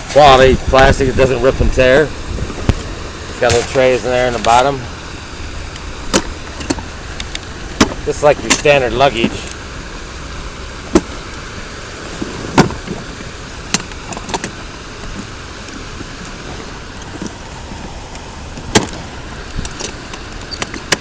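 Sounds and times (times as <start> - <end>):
street traffic: 0.0 - 21.0
wheeled case rolling on pavement: 0.0 - 21.0.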